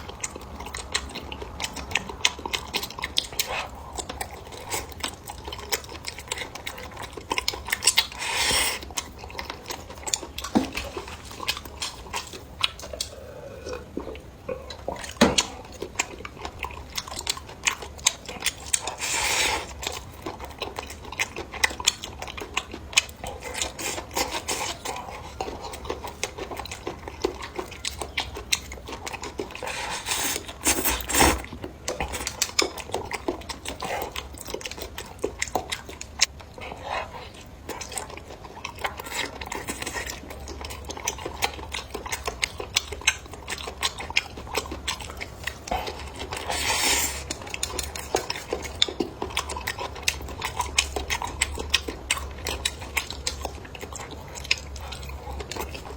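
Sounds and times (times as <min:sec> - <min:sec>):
chewing and crunching: 0:00.0 - 0:55.9.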